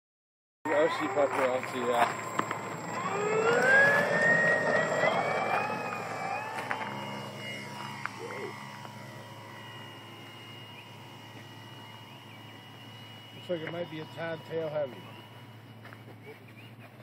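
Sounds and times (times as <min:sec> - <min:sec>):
model airplane motor whine: 0:00.7 - 0:17.0.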